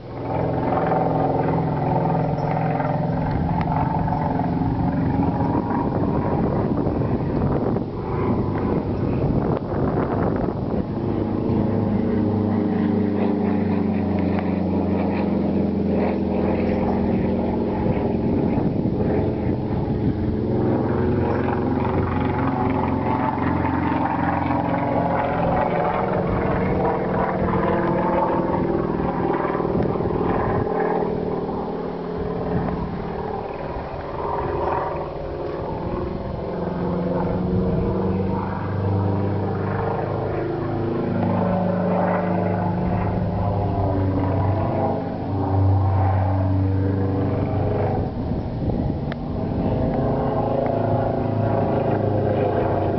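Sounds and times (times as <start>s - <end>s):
propeller aircraft engine drone: 0.0s - 52.9s.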